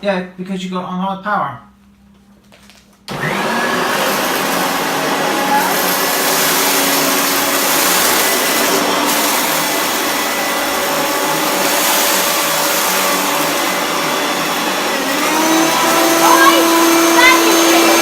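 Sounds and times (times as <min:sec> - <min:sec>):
vacuum cleaner running: 0:03.1 - 0:18.0.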